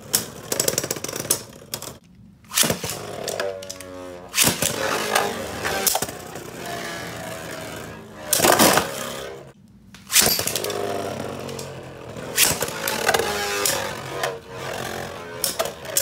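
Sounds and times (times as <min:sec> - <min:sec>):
spinning tops colliding clacks: 0:00.1 - 0:16.0
spinning tops whirring rattle: 0:02.5 - 0:16.0.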